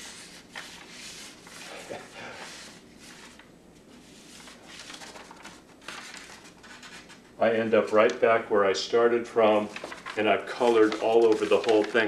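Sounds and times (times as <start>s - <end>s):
paper rubbing under hand: 0.0s - 7.8s, 9.5s - 12.0s.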